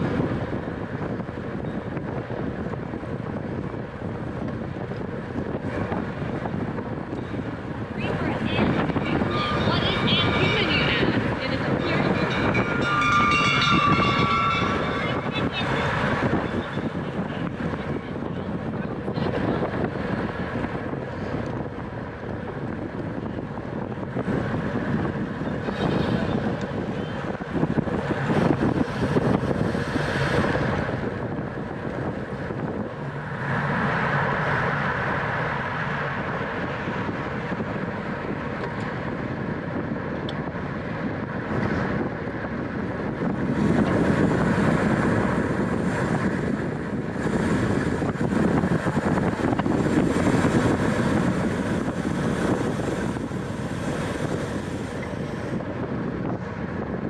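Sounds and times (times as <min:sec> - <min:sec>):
bicycle road noise: 0:00.0 - 0:57.0
wind rushing over microphone: 0:00.0 - 0:57.0.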